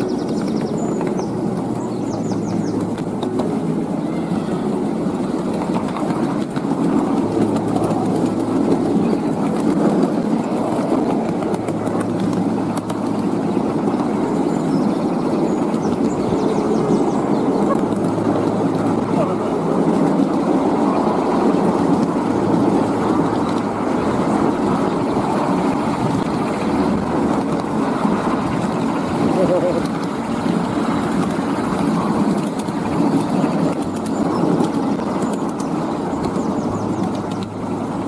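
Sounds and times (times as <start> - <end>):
low hum: 0.0 - 38.0
miniature train rumble: 0.0 - 38.0.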